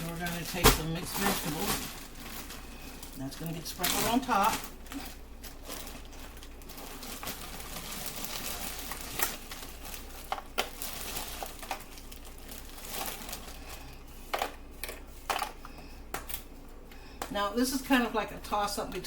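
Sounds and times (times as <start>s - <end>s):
plastic bag crinkling: 0.0s - 15.7s.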